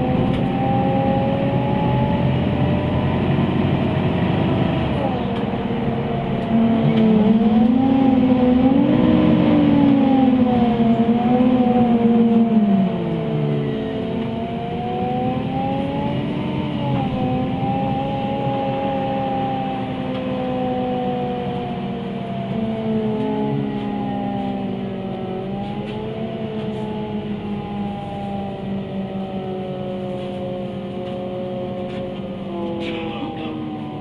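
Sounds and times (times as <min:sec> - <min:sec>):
bus engine whining: 0:00.0 - 0:34.0
steady rumble: 0:00.0 - 0:34.0.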